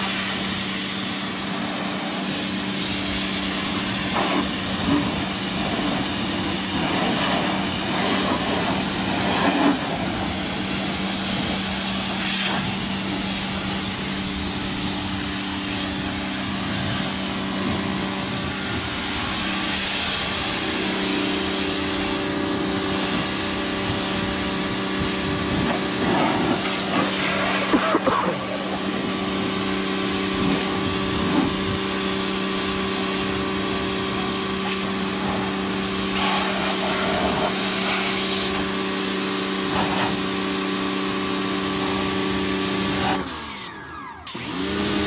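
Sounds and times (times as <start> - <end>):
high-pressure water jet hissing: 0.0 - 45.0
pressure washer motor hum: 0.0 - 45.0.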